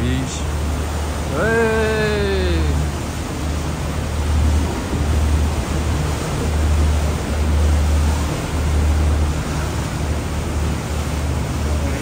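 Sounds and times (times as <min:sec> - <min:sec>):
boat engine rumble: 0:00.0 - 0:12.0
wind and water rushing: 0:00.0 - 0:12.0.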